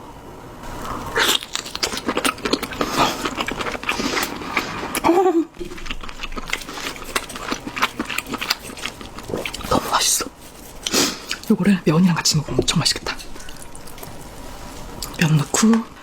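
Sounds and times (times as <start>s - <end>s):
wet chewing and biting: 0.6s - 15.5s.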